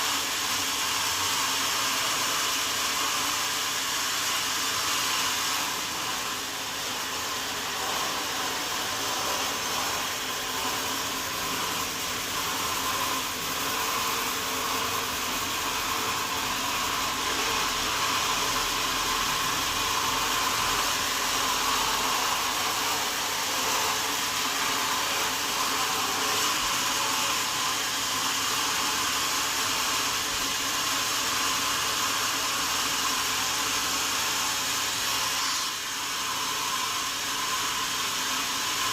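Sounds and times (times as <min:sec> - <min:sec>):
sawmill saw whirring: 0:00.0 - 0:38.9.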